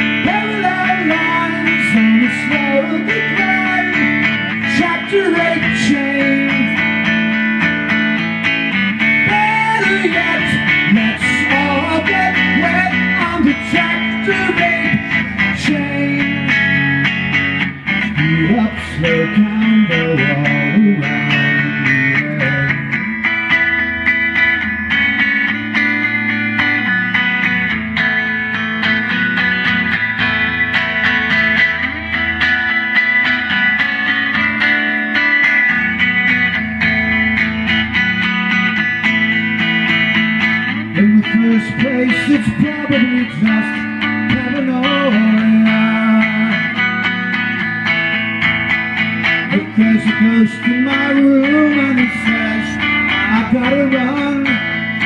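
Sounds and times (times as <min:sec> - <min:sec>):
guitar with bent lead notes: 0:00.0 - 0:55.0.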